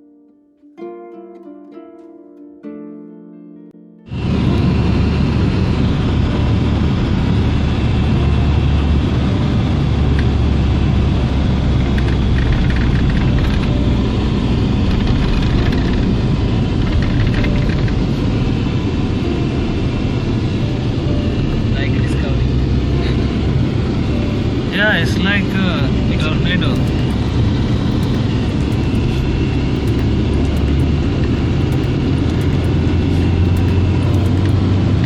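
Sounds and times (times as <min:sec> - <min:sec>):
wind buffeting microphone: 0:04.1 - 0:35.0.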